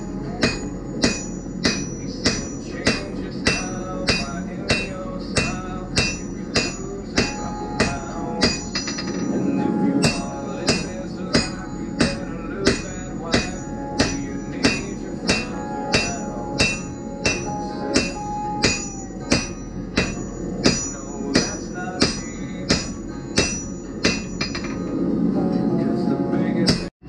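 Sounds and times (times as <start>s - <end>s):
hammer striking steel on anvil: 0.0s - 25.0s.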